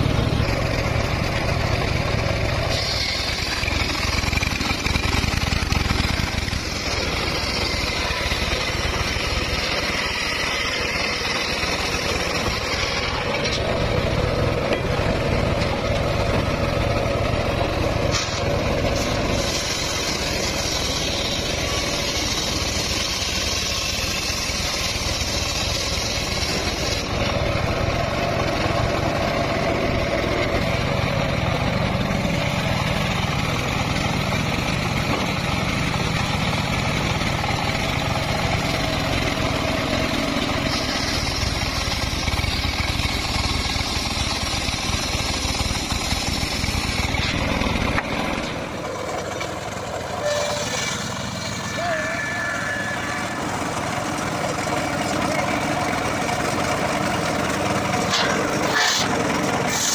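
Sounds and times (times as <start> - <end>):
circular sawmill cutting log: 0.0 - 59.9.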